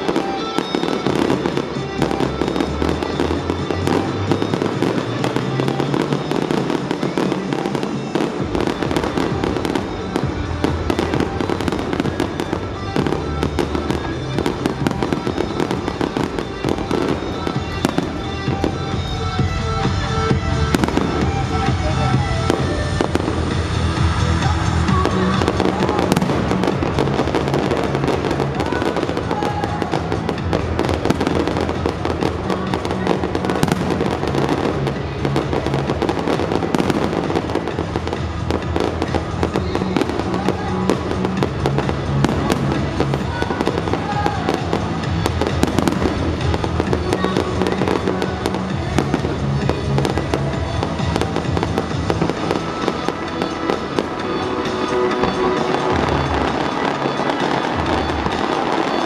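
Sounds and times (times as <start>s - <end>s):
fireworks bangs and crackles: 0.0s - 59.0s
loud music: 0.0s - 59.0s.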